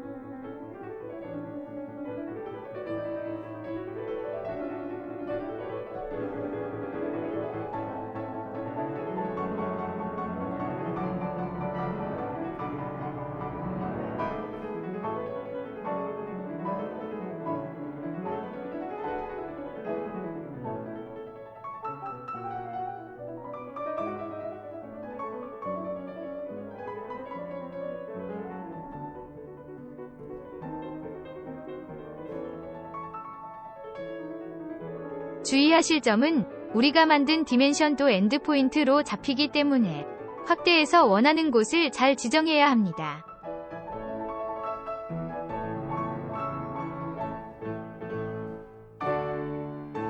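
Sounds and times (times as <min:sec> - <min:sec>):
piano melody: 0:00.0 - 0:50.0.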